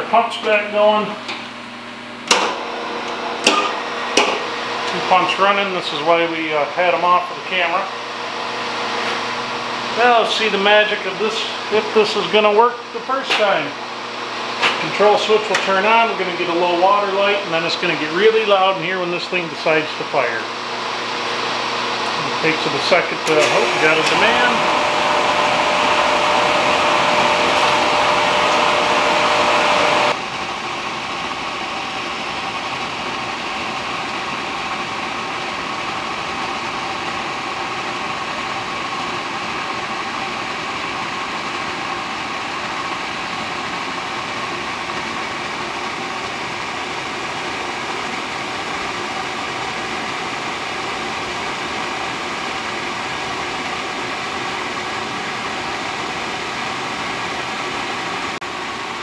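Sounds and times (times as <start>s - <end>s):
oil burner blower rushing: 0.0s - 59.0s.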